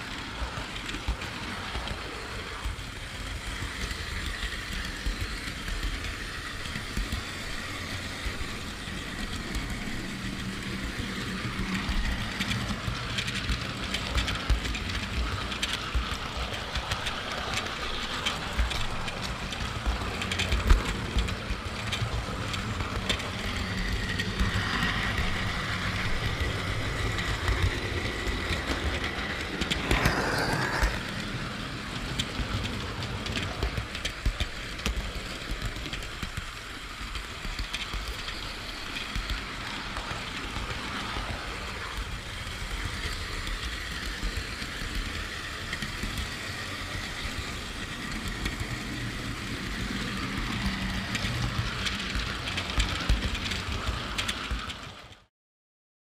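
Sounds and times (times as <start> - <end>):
model train wheels rumbling on rail: 0.0 - 55.3
rapid clicks over track: 0.0 - 55.3.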